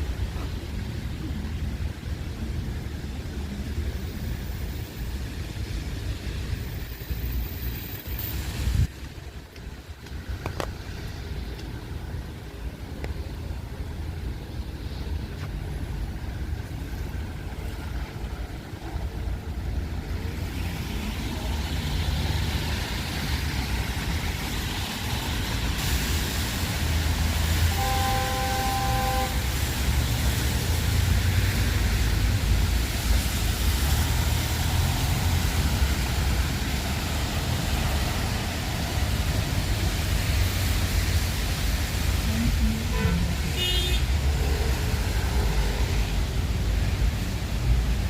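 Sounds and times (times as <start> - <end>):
traffic on wet roads: 0.0 - 48.0.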